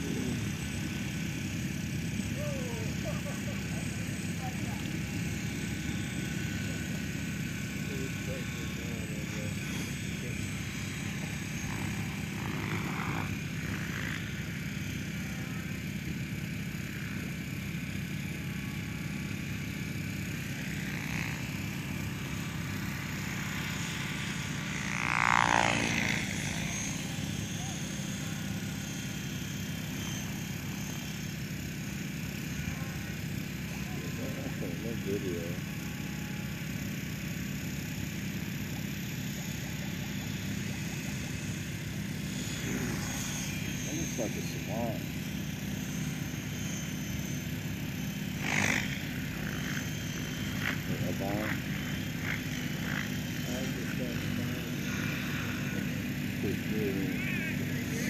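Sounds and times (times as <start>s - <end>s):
rc helicopter rotor hum: 0.0s - 58.0s.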